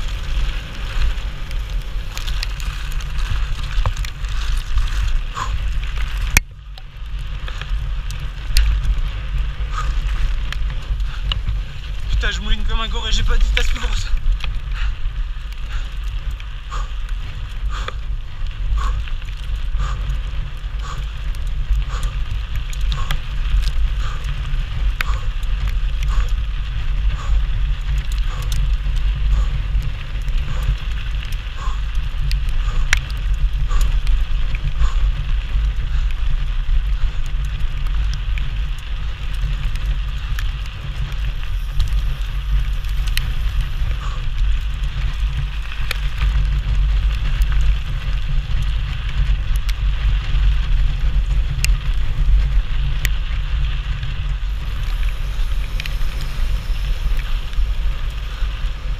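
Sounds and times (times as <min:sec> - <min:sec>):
bike rattling: 0:00.0 - 0:58.9
tyres crackling over stones: 0:00.0 - 0:58.9
wind rumble on microphone: 0:00.0 - 0:58.9
light ticks: 0:00.1 - 0:58.7.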